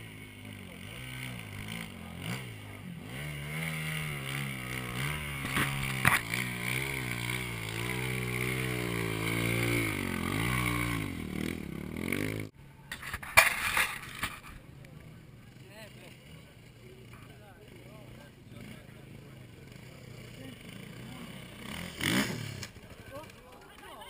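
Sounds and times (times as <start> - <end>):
motorcycle engine revving: 0.0 - 14.4, 15.0 - 24.0.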